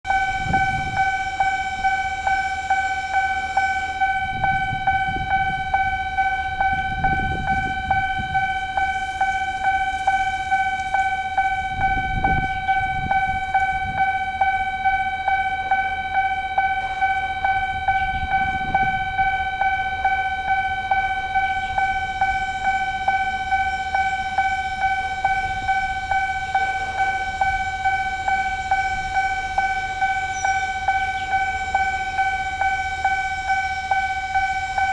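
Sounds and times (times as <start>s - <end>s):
level crossing bell ringing: 0.0s - 34.9s
low rumbles: 0.1s - 34.9s.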